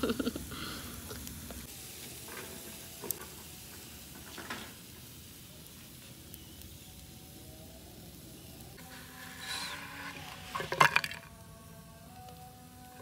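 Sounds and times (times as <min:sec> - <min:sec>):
meat sizzling over charcoal: 0:00.0 - 0:13.0.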